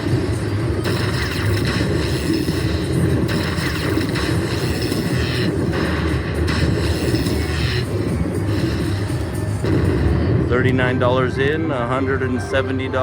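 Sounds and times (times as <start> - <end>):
high electronic tones: 0.0 - 11.5
low rumble: 0.0 - 13.0
slot machine sounds: 0.0 - 13.0.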